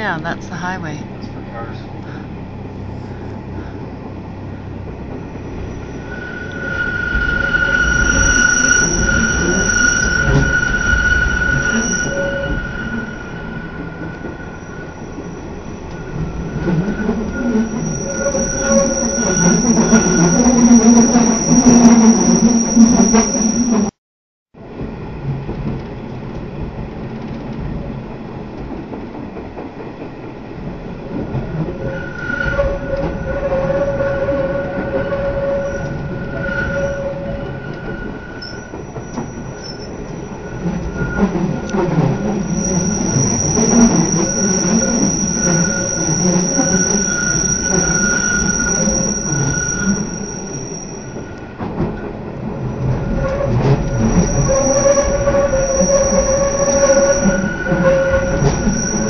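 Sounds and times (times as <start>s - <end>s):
train wheels rumbling on rails: 0.0s - 23.9s, 24.6s - 59.0s
shrill wheel squeal: 1.6s - 24.0s, 31.1s - 59.0s.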